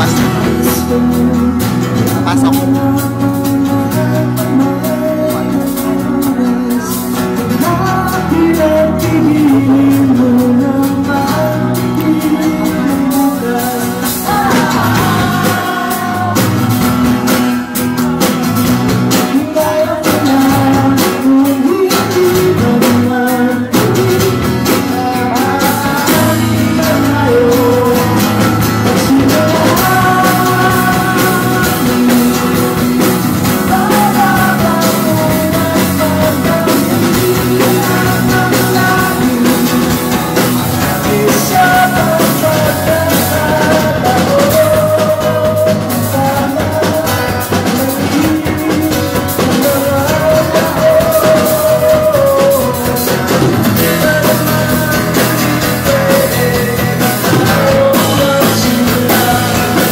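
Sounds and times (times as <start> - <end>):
acoustic guitar strumming: 0.0 - 59.9
electric bass guitar: 0.0 - 59.9
man singing: 0.0 - 59.9.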